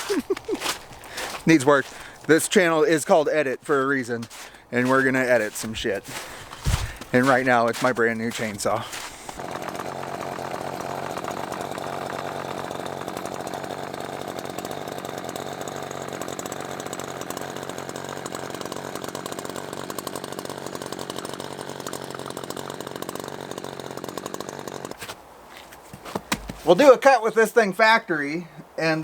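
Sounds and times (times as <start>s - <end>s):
chainsaw idling: 0.0s - 25.0s.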